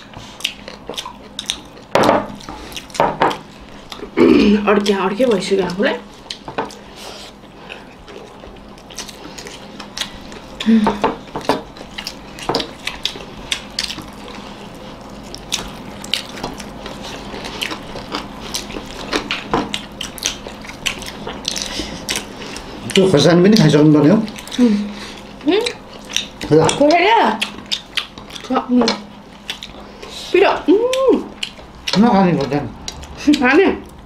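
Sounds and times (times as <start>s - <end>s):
wet chewing and lip smacks: 0.0s - 4.2s, 6.1s - 34.0s.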